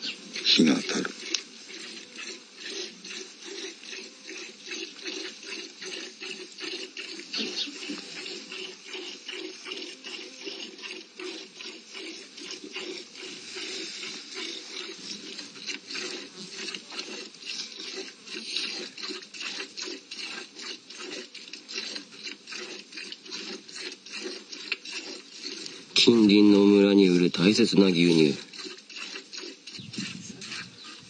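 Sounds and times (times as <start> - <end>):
milk squirts hitting bucket: 0.3 - 31.0.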